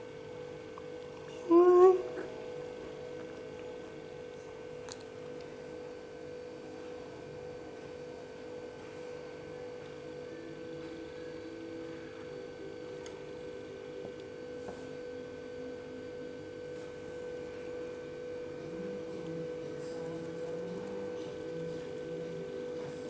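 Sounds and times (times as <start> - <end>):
steady tonal hum: 0.0 - 23.0.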